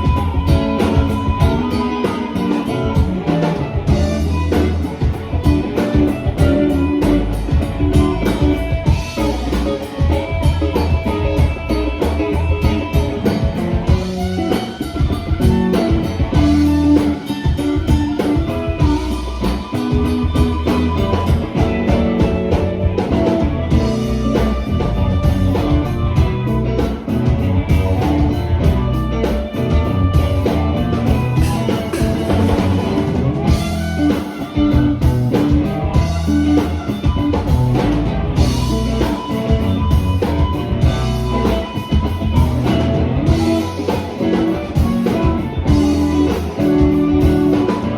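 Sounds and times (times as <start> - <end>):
drum kit beat: 0.0 - 47.9
electric guitar: 0.0 - 47.9.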